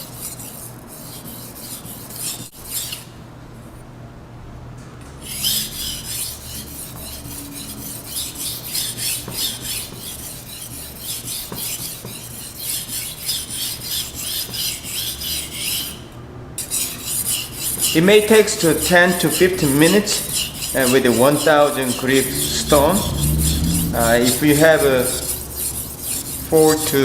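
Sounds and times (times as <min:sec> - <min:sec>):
knife scraping on whetstone: 0:00.0 - 0:03.1, 0:05.2 - 0:27.0.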